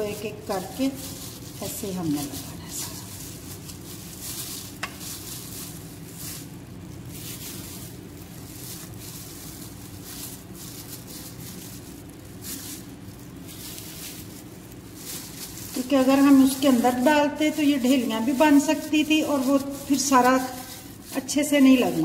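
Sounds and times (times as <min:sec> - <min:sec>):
plastic glove crinkling: 0:00.0 - 0:22.0
steady low hum: 0:00.0 - 0:22.0
wet batter squishing: 0:00.0 - 0:22.0.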